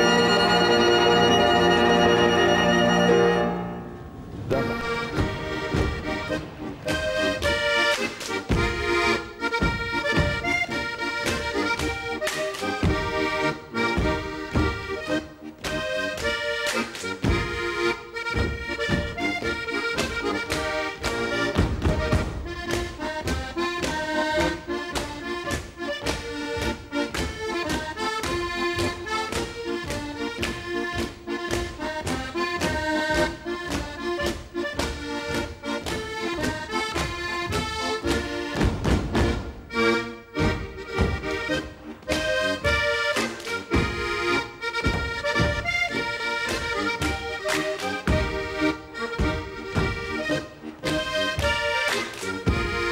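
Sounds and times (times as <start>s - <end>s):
accordion folk dance tune: 0.0s - 52.9s
dancers slapping and stamping: 4.6s - 52.9s.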